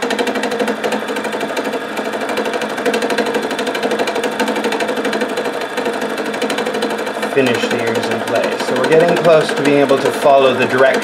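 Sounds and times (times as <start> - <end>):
felting machine needles punching: 0.0 - 11.0.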